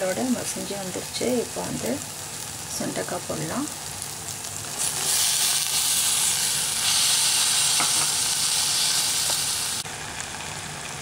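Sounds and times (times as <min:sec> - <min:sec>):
berries sizzling in hot oil: 0:00.0 - 0:11.0.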